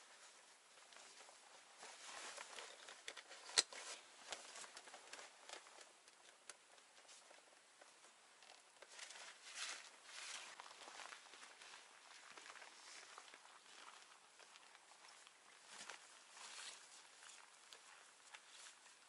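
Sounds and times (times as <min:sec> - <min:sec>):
backpack and clothing rustling: 0:00.0 - 0:06.0, 0:08.8 - 0:19.0.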